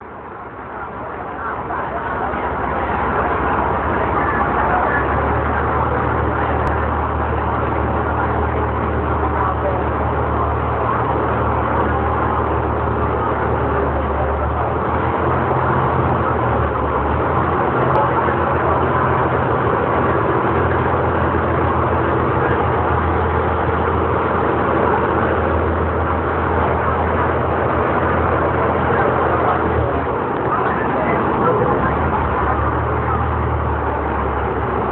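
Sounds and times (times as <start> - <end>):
ferry diesel engine droning: 0.0 - 34.9
water rushing: 0.0 - 34.9.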